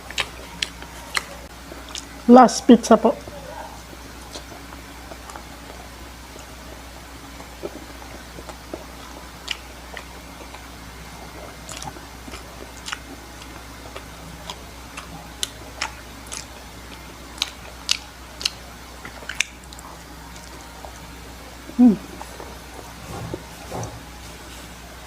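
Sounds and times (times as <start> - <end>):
person chewing with mouth clicks: 0.0 - 2.1, 3.8 - 24.0
steady low hum: 0.0 - 25.0.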